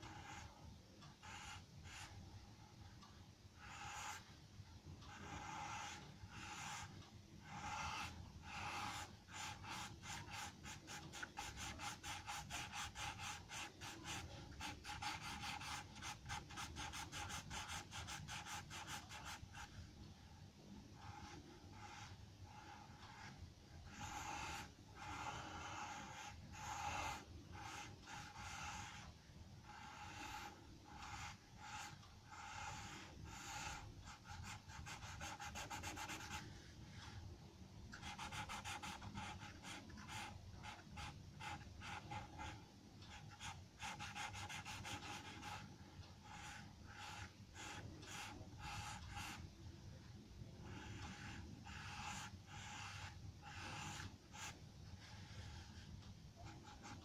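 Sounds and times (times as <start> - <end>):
pencil scratching on paper: 0.0 - 20.0, 20.6 - 57.0.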